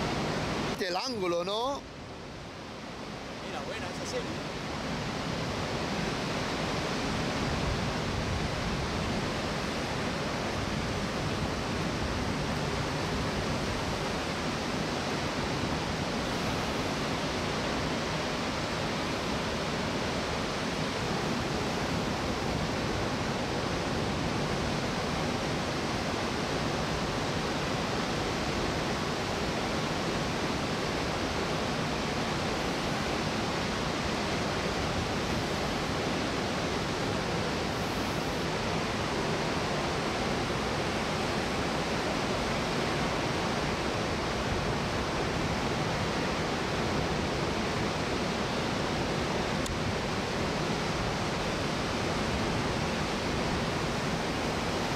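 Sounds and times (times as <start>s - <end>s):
ocean surf rushing: 0.0s - 54.9s.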